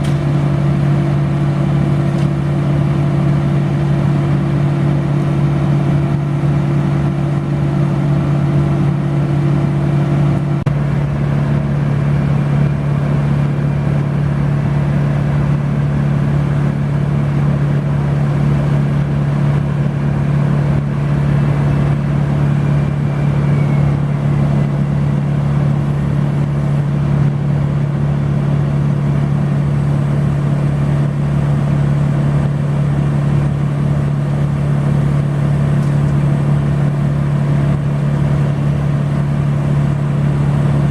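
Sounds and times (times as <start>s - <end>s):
large engine running steadily: 0.0s - 40.9s.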